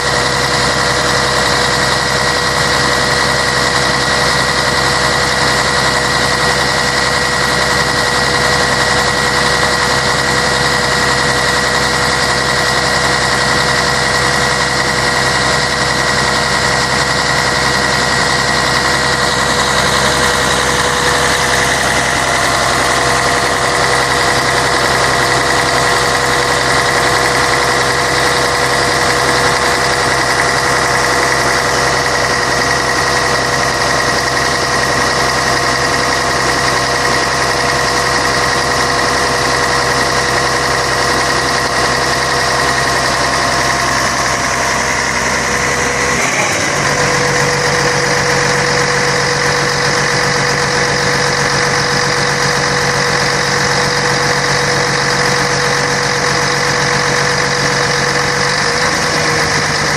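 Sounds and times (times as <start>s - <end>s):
constant engine whine: 0.0s - 59.9s
diesel bus engine running: 0.0s - 59.9s.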